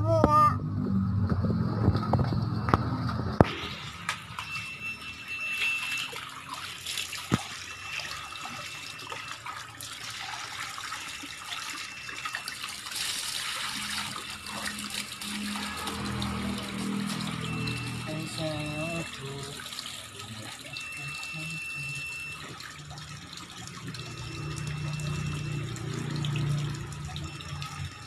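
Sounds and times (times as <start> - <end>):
water splashing: 1.6 - 28.0
tap water running into tub: 3.5 - 28.0.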